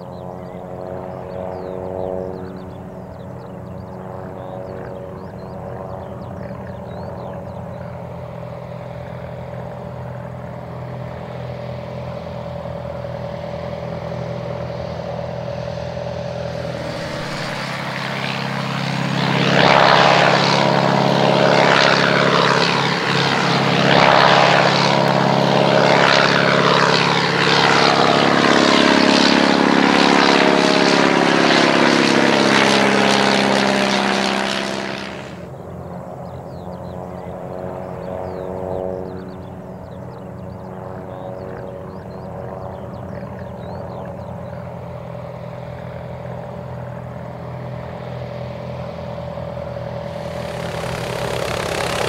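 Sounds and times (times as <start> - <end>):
biplane engine passing low: 0.0 - 52.0.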